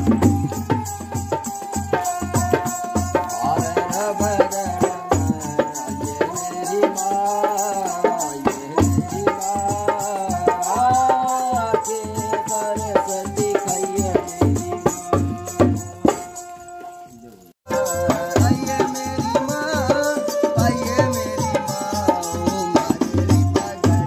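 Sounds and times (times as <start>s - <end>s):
barrel drum beating: 0.0s - 24.0s.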